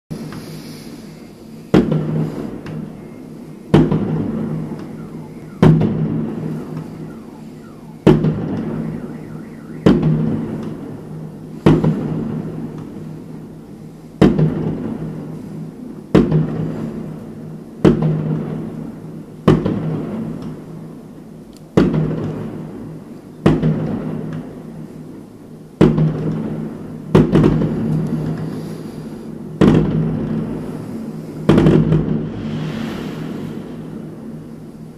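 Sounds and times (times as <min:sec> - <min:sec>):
firework bangs echoing: 0:00.1 - 0:13.5, 0:14.2 - 0:20.9, 0:21.7 - 0:24.6, 0:25.8 - 0:34.9.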